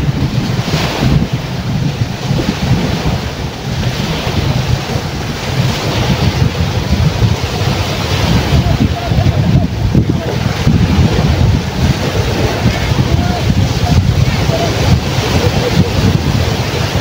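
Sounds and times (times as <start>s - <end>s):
surf breaking on pebbly shore: 0.0s - 17.0s
wind buffeting microphone: 0.0s - 17.0s.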